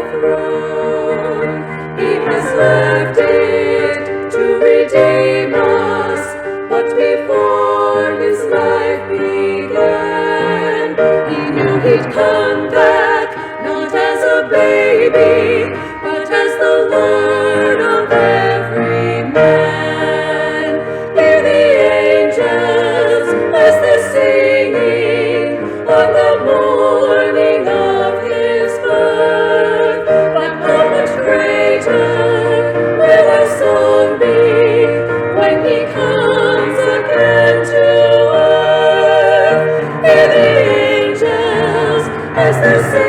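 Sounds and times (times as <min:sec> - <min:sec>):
choir singing in harmony: 0:00.0 - 0:43.0.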